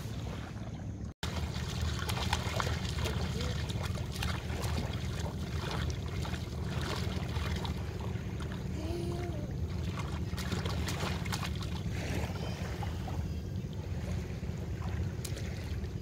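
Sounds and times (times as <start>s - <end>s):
water splashing from wading: 0.0s - 16.0s.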